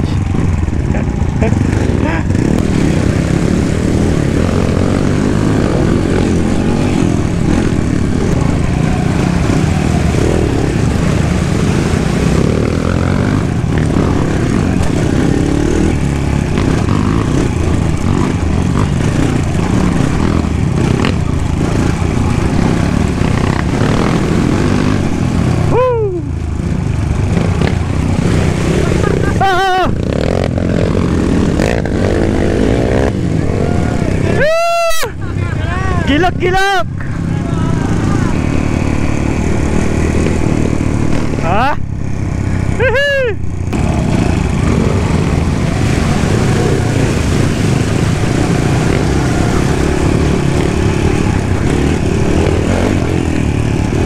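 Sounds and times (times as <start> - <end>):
dirt bike engine running: 0.0 - 34.4, 37.0 - 54.0.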